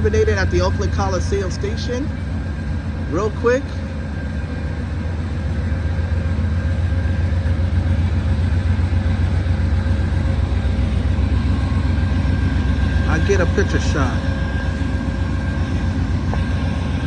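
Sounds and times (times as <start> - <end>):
diesel locomotives idling: 0.0 - 17.0
faint steady whine: 0.0 - 17.0.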